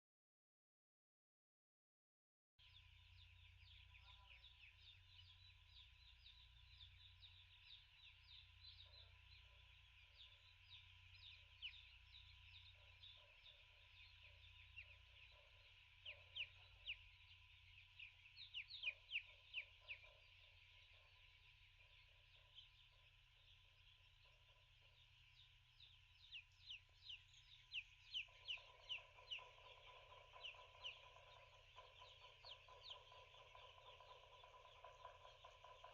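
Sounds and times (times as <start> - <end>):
chicks peeping: 2.6 - 35.9.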